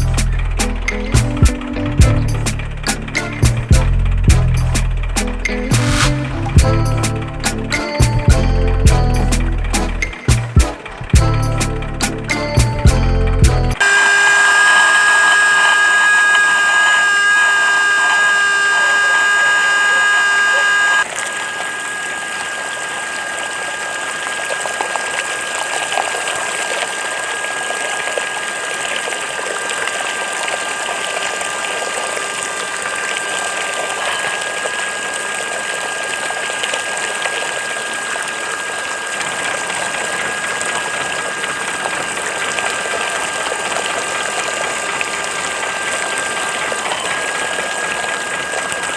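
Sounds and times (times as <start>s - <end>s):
water gushing through pump: 0.0s - 48.9s
water pump whining: 0.0s - 48.9s.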